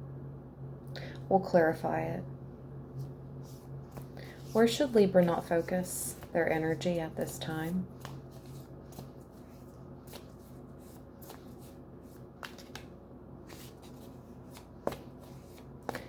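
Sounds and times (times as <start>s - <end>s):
cards being shuffled: 3.0s - 16.0s.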